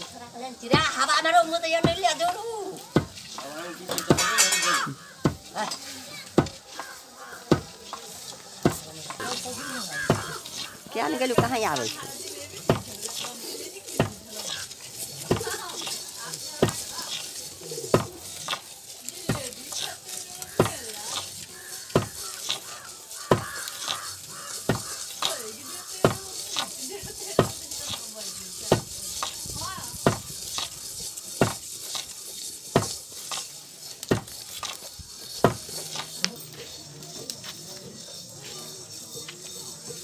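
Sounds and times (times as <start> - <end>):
bamboo sticks scraping metal wok: 0.0 - 40.0
hiss of roasting grain: 0.0 - 40.0.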